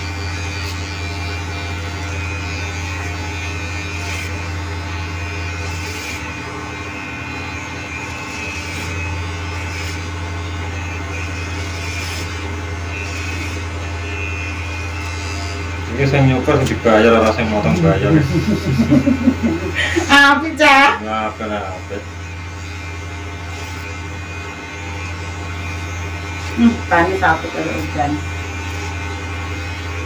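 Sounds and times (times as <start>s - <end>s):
electric hair clippers buzzing: 0.0s - 30.0s.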